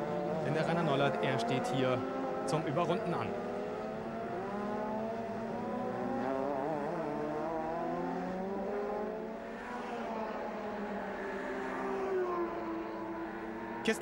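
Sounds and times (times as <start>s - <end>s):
car engines revving high: 0.0s - 14.0s.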